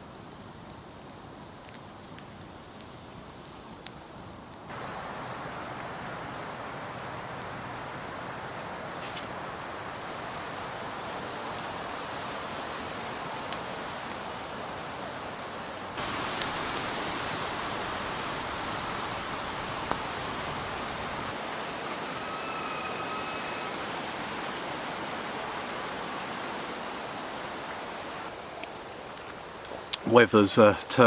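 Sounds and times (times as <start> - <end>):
wind blowing through trees: 0.0 - 31.0.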